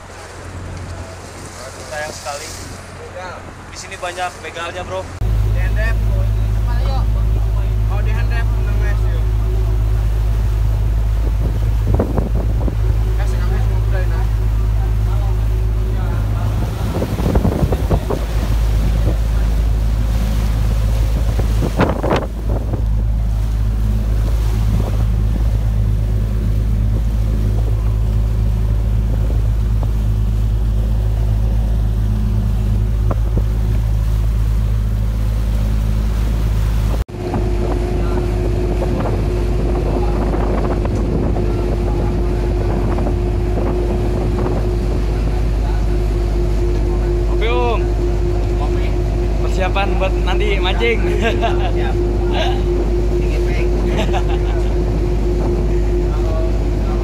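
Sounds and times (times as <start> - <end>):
boat engine running: 0.0 - 57.0
wind buffeting microphone: 5.2 - 57.0.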